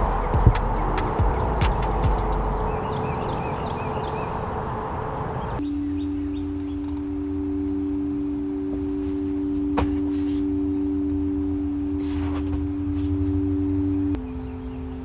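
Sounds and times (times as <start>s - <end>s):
ambient drone music: 0.0s - 15.0s
low hum: 0.0s - 15.0s.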